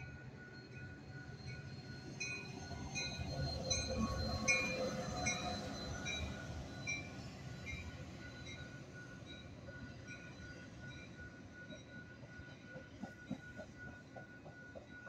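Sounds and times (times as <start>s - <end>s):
crossing warning bells ringing: 0.0s - 15.0s
train engine and wheels rumbling: 0.0s - 15.0s.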